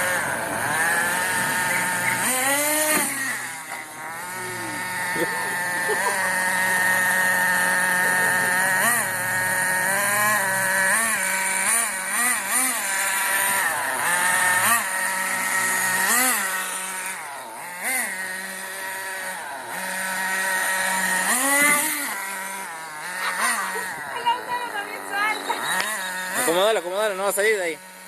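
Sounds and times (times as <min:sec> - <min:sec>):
toy vehicle motor whining: 0:00.0 - 0:28.0.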